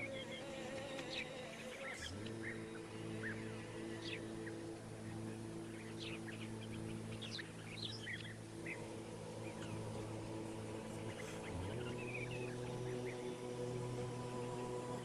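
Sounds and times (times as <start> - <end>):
background music drone: 0.0 - 15.0
small birds chirping: 0.0 - 15.0.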